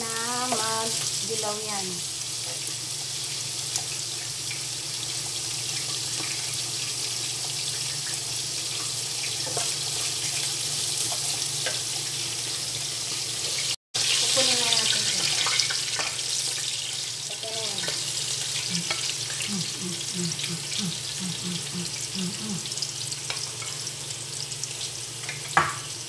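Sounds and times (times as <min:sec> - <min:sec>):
ginger sizzling in hot oil: 0:00.0 - 0:19.5, 0:21.9 - 0:26.0.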